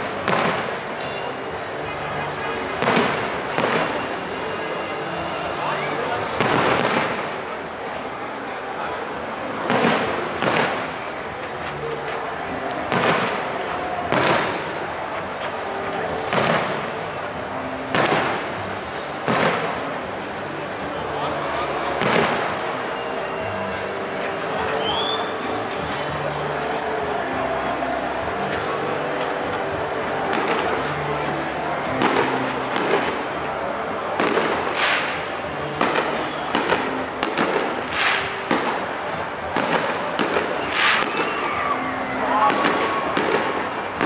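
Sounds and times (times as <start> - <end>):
fireworks bangs echoing: 0.0 - 44.0.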